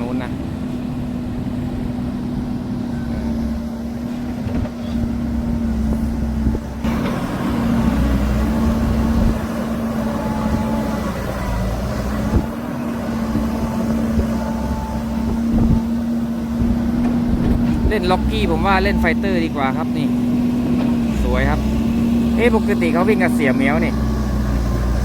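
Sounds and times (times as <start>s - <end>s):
diesel truck engine droning: 0.0s - 25.0s
trucks passing: 0.0s - 25.0s.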